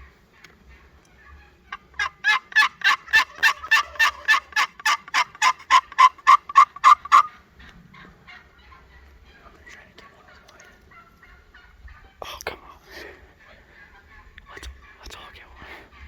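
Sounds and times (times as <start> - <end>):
turkey yelping: 0.0 - 12.2, 13.4 - 15.1.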